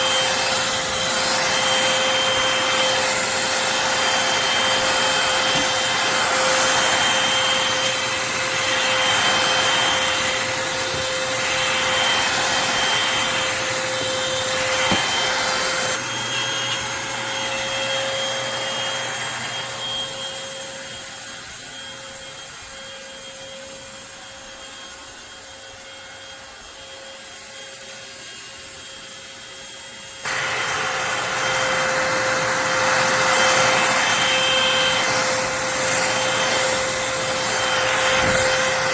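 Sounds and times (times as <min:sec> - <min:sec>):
stick vacuum cleaner running: 0:00.0 - 0:38.9.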